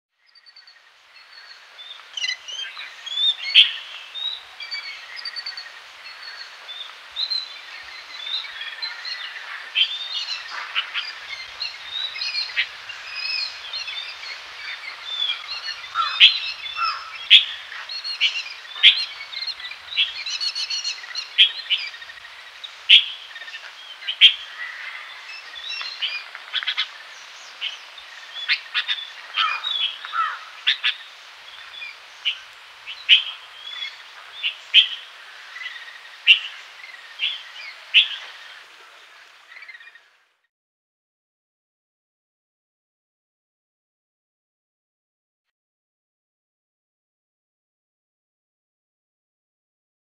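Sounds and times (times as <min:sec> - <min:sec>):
birds chirping and twittering: 0:00.2 - 0:40.2.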